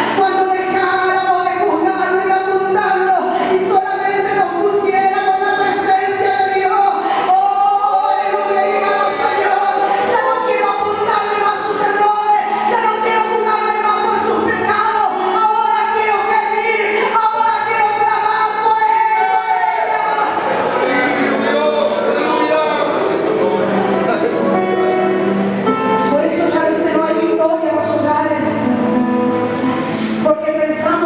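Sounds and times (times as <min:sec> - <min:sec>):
woman singing into a microphone: 0:00.0 - 0:21.3, 0:25.8 - 0:29.0, 0:29.8 - 0:31.0.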